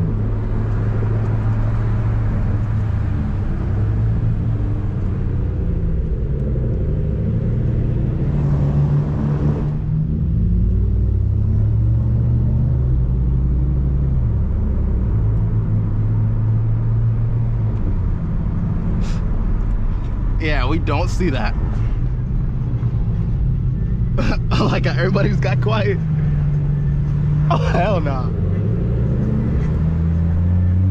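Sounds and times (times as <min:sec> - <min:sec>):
car engine droning: 0:00.0 - 0:30.9.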